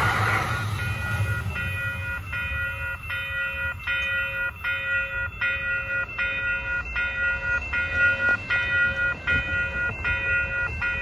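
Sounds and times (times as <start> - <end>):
level crossing warning bell: 0.0 - 11.0.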